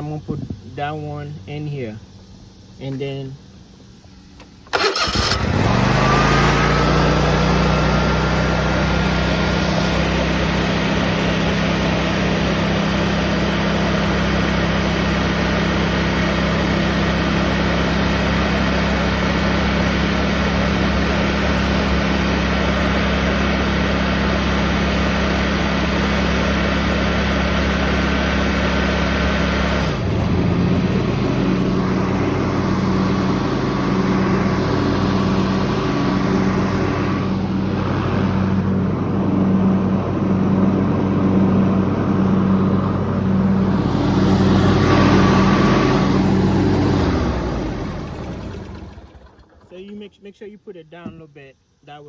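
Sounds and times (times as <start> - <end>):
lawn mower engine running: 0.0 - 50.1.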